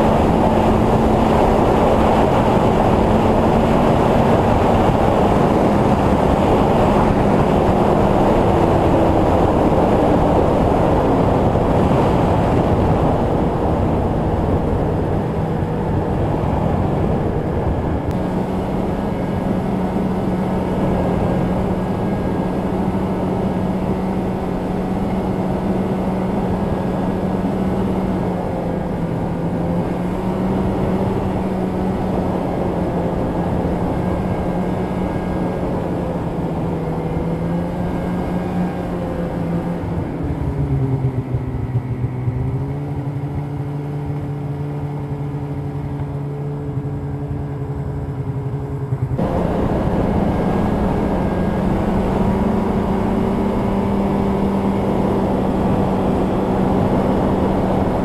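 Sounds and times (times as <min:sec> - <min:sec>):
snowmobile engine running: 0:00.0 - 0:58.0
track and wind noise: 0:00.0 - 0:58.0.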